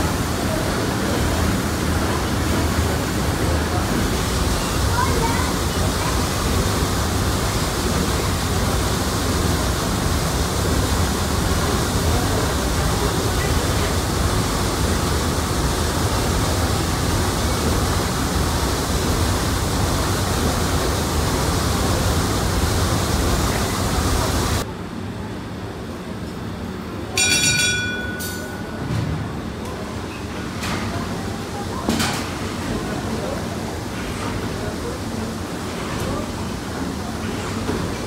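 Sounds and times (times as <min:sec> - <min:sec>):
paddle wheel churning water: 0:00.0 - 0:24.7, 0:30.5 - 0:38.0.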